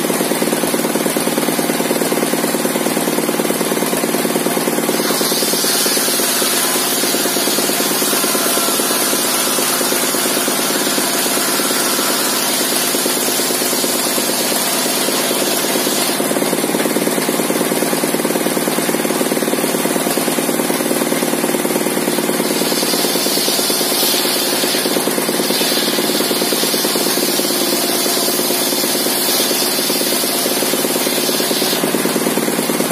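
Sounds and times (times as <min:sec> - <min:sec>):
saw blade cutting timber: 0:00.0 - 0:32.9.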